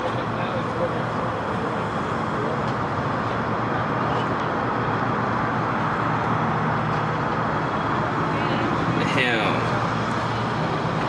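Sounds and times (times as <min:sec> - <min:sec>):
traffic hum: 0:00.0 - 0:11.0.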